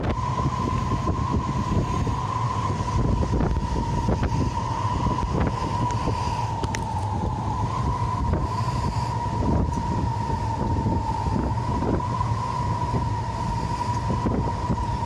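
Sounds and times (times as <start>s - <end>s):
jet engines whining: 0.0s - 15.0s
wind buffeting microphone: 0.0s - 15.0s.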